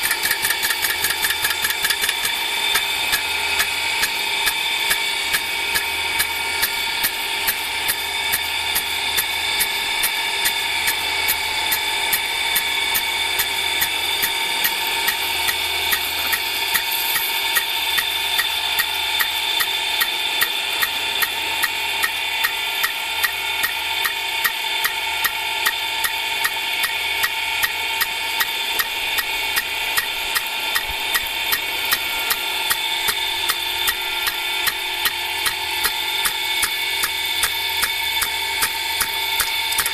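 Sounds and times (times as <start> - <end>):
sprinkler arm clacking: 0.0 - 39.9.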